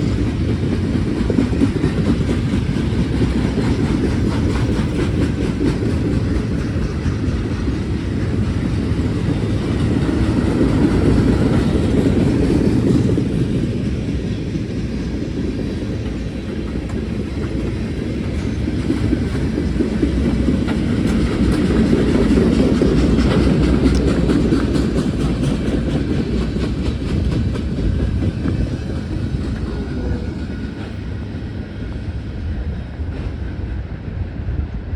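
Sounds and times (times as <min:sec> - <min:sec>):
clickety-clack over rail joints: 0:00.0 - 0:34.9
train wheels rumbling on rails: 0:00.0 - 0:34.9.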